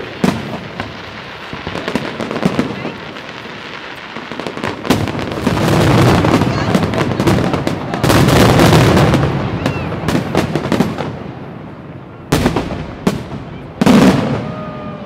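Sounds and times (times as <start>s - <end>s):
fireworks booms: 0.0s - 15.0s
fireworks bursting: 0.0s - 15.0s
fireworks crack: 0.0s - 15.0s.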